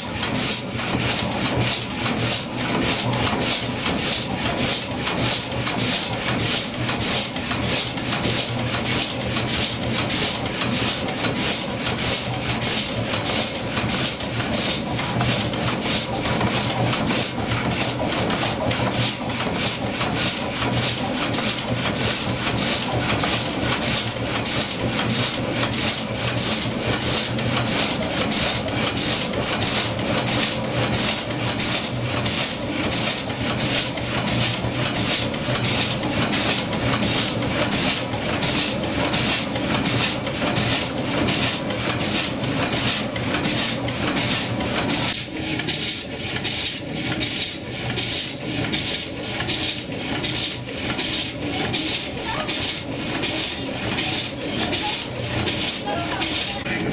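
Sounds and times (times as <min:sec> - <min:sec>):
saw blade rasping through log: 0:00.1 - 0:56.9.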